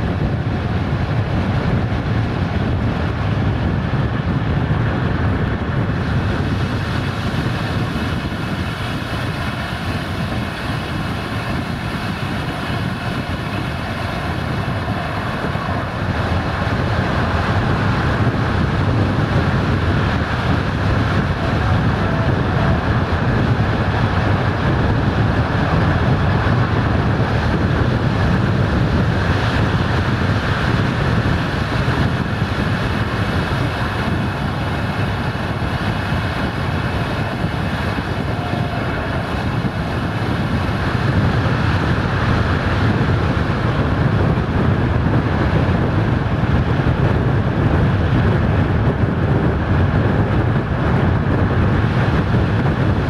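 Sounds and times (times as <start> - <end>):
train wheels rumbling on rails: 0.0 - 53.0
wind buffeting microphone: 0.0 - 53.0.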